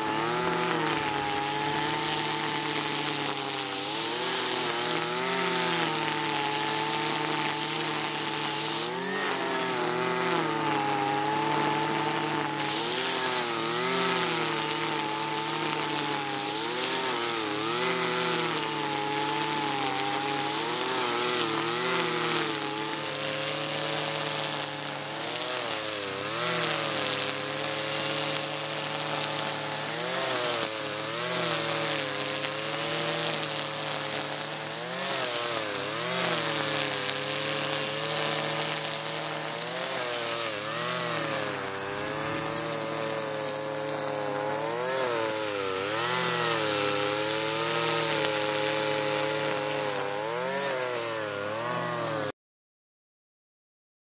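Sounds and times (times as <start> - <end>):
brushcutter engine cutting grass: 0.0 - 52.4.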